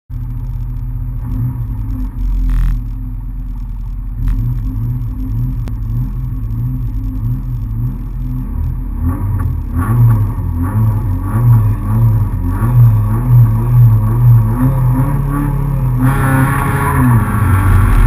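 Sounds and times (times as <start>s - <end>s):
rally car engine idling: 0.1s - 18.0s.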